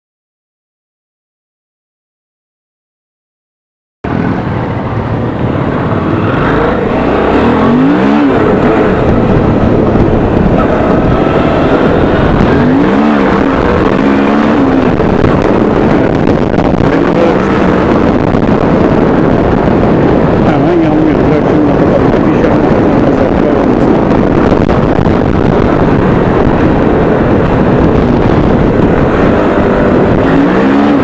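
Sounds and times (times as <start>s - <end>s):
motorcycle engine revving: 4.0s - 31.0s
wind noise: 4.0s - 31.0s.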